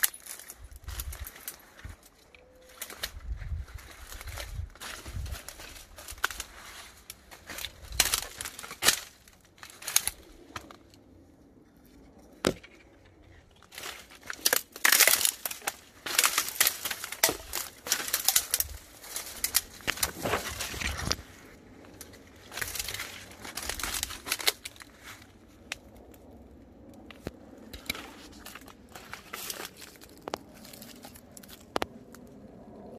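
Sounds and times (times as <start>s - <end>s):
twigs crackling and snapping: 0.0s - 11.1s, 11.8s - 32.9s.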